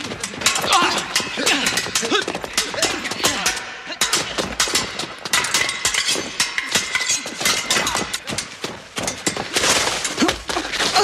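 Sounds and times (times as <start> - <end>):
swords clashing: 0.0 - 11.0.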